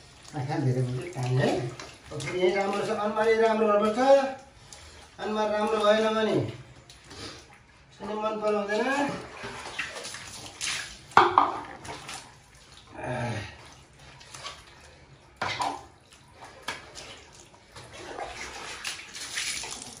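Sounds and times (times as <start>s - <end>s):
water splashing and pouring: 0.0s - 20.0s.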